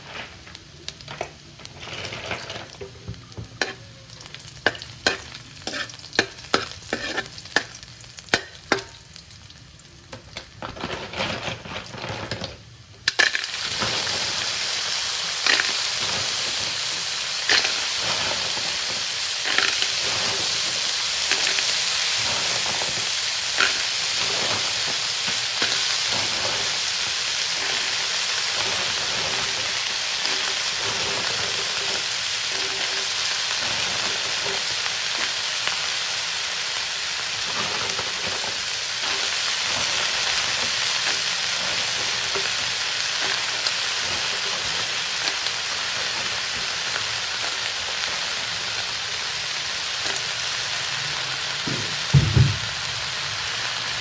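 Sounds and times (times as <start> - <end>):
snails sizzling in hot oil: 0.0 - 54.0.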